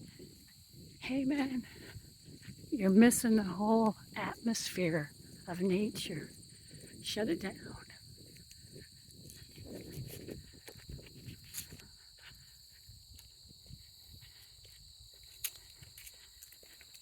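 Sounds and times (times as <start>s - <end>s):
crickets chirring: 0.0s - 17.0s
footsteps on trail: 0.0s - 17.0s.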